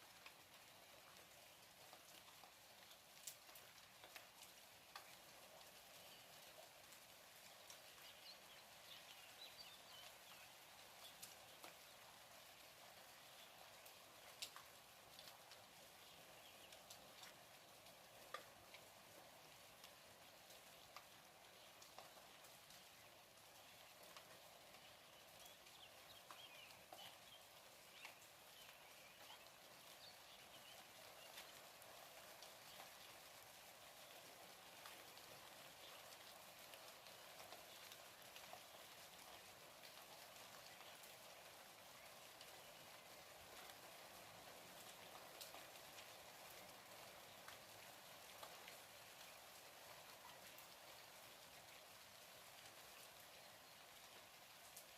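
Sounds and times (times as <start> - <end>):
light rain hissing: 0.0 - 54.9.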